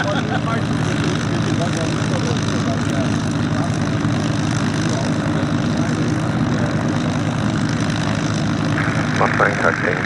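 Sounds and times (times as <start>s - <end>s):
piston aircraft engine running: 0.0s - 10.0s.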